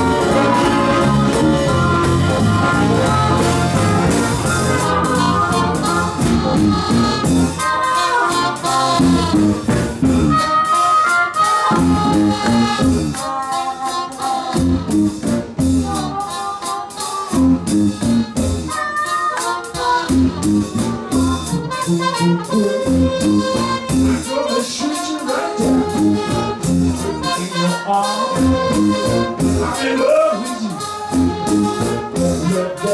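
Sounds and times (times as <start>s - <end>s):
live band playing: 0.0s - 32.9s
steady drum beat: 0.0s - 32.9s.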